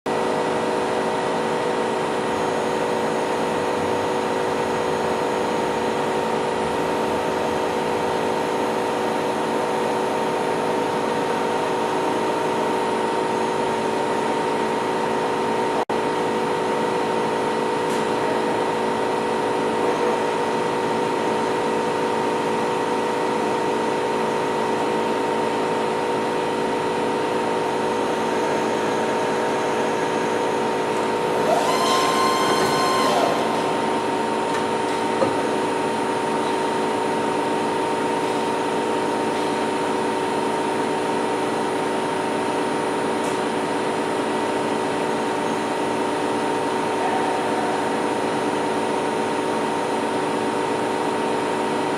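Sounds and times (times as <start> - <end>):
machinery humming: 0.1 - 51.9.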